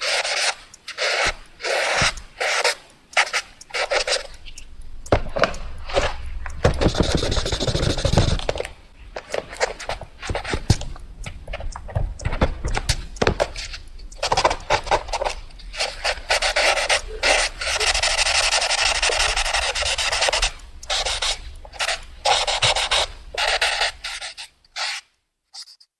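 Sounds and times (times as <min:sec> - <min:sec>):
drawing tool scratching: 0:00.0 - 0:25.9.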